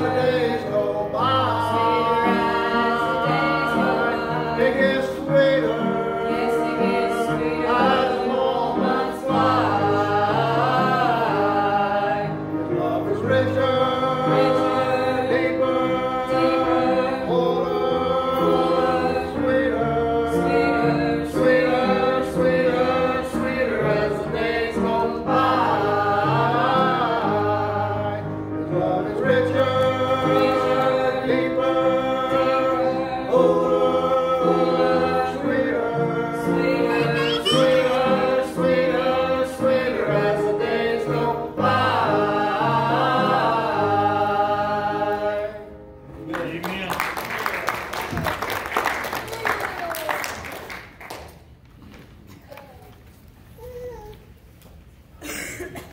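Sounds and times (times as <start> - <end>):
gospel group singing in harmony: 0.0 - 46.2.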